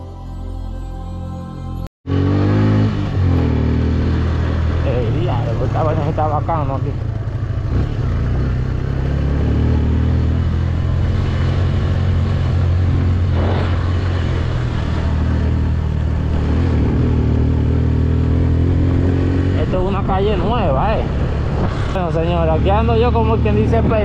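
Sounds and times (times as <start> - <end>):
motorcycle engine running: 2.1 - 24.0.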